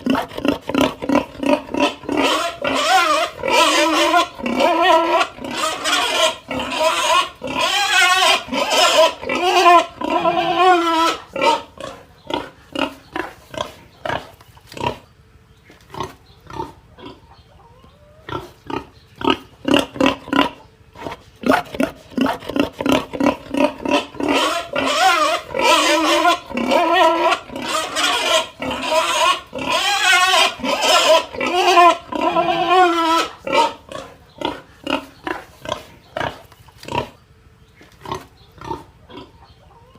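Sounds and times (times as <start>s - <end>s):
pig squealing: 0.0s - 15.0s, 16.0s - 37.2s, 38.1s - 39.9s
pig grunting: 0.0s - 15.1s, 15.9s - 17.4s, 18.0s - 37.2s, 37.9s - 39.9s.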